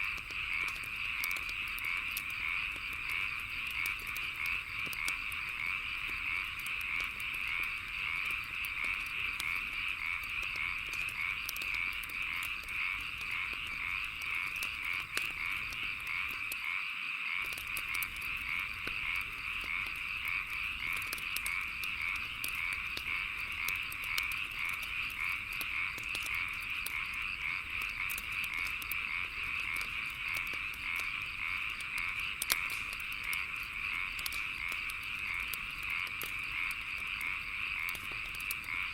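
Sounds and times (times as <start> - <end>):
wood fire crackling: 0.0 - 16.7, 17.4 - 38.9
frogs croaking: 0.0 - 38.9.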